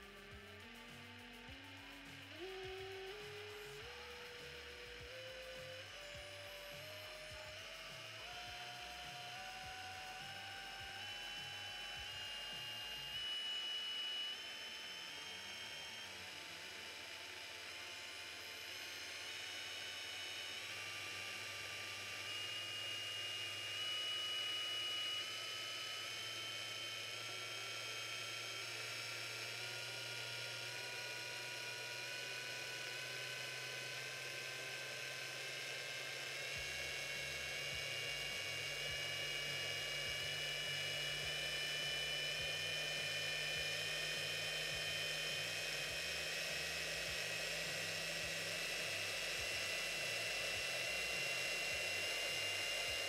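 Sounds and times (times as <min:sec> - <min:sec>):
drill motor whine rising: 0:00.0 - 0:53.0.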